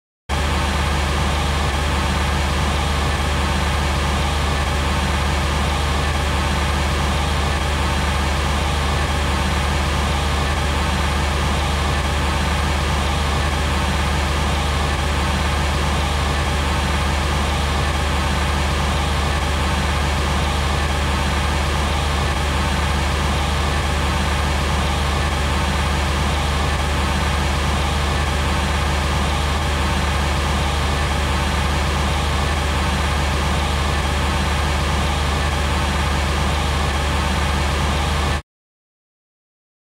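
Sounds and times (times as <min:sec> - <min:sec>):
car engine running steadily: 0:00.3 - 0:38.4.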